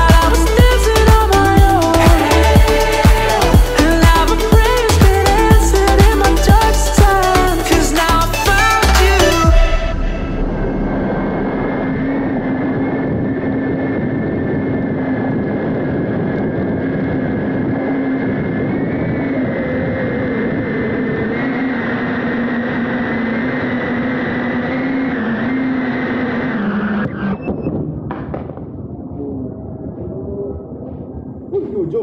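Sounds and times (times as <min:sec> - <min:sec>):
drone propellers buzzing: 0:00.0 - 0:32.0.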